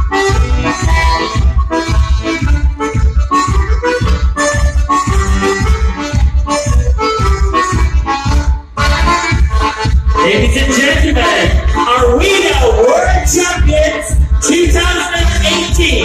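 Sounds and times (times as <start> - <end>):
accordion dance music: 0.0 - 16.0
steady bass beat: 0.0 - 16.0.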